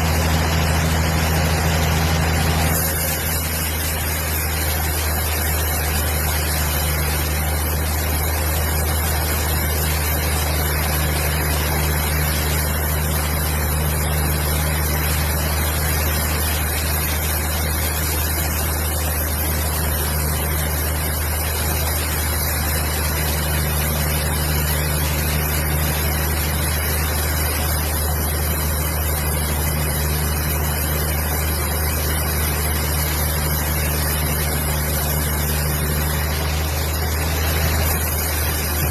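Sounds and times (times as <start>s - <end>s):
machine motor humming: 0.0s - 38.9s.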